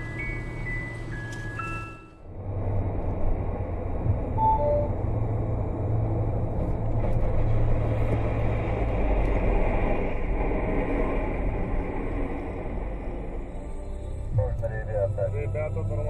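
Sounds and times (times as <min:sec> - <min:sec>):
low constant hum: 0:00.0 - 0:16.0
vehicle road noise rumble: 0:00.0 - 0:16.0.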